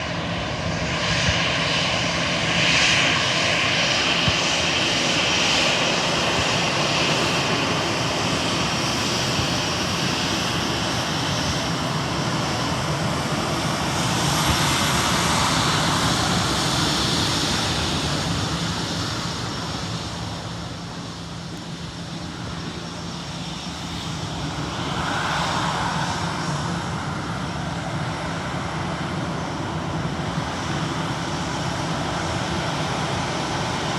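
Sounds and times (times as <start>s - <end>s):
jet engines at takeoff: 0.0s - 33.9s.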